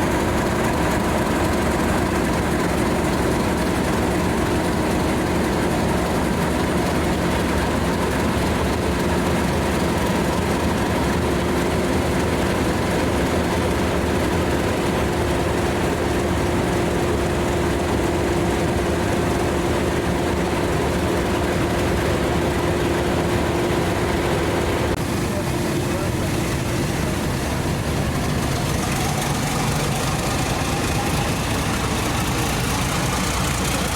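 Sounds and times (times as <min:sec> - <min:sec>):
diesel locomotive engine droning: 0:00.0 - 0:33.9.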